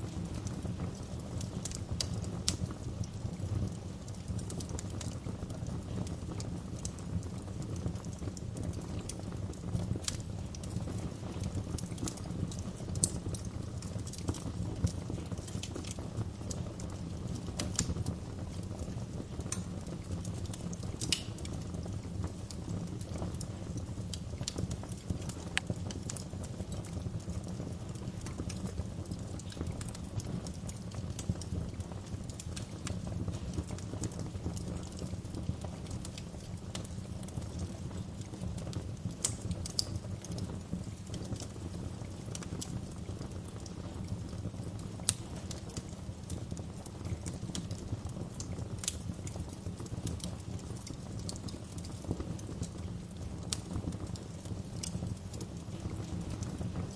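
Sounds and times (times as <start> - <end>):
fire pops and snaps: 0.0 - 56.9
wood fire crackling: 0.0 - 56.9.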